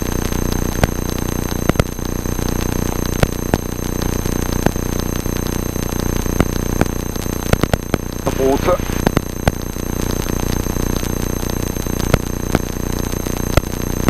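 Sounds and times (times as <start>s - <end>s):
high electrical whine: 0.0s - 14.0s
interference clicks: 0.0s - 14.0s.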